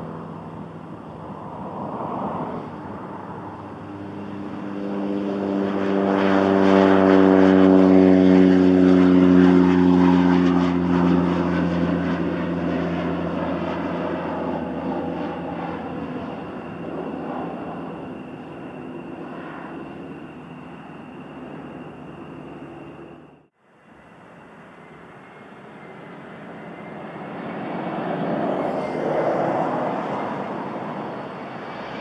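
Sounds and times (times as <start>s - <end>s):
propeller airplane passing: 0.0s - 32.0s.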